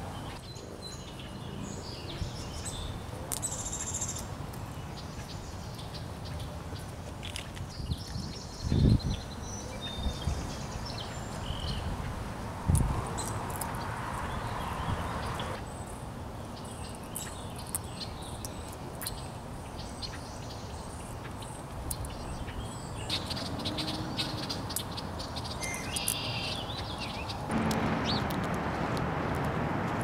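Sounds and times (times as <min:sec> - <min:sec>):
wild birds chirping: 0:00.0 - 0:29.6.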